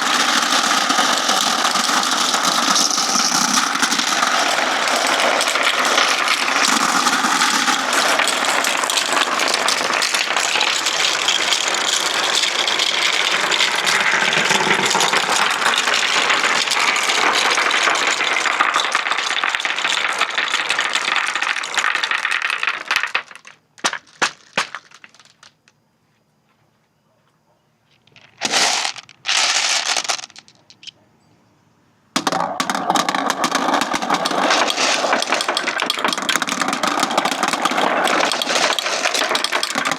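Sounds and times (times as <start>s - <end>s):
glass marbles rolling and clattering: 0.0s - 25.8s, 28.0s - 30.9s, 32.2s - 39.9s.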